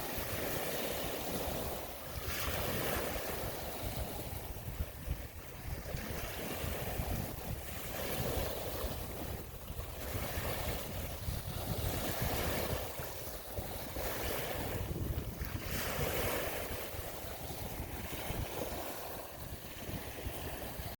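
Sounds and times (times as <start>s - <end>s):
waves washing: 0.0s - 21.0s
wind rumbling on microphone: 0.0s - 21.0s.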